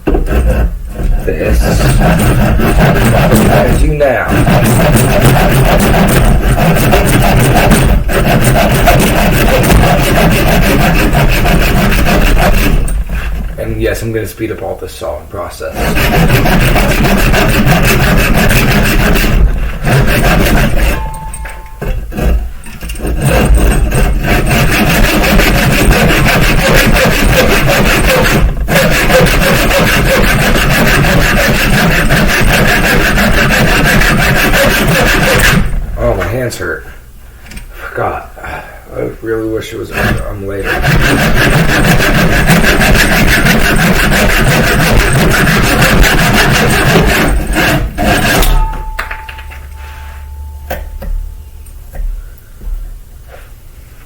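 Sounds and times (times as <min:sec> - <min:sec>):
hand saw cutting wood: 0:00.0 - 0:14.0, 0:15.6 - 0:35.8, 0:39.8 - 0:49.0.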